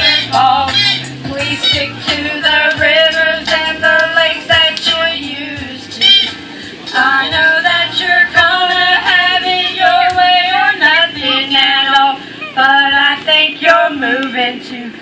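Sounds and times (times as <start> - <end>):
backing music: 0.0 - 12.1.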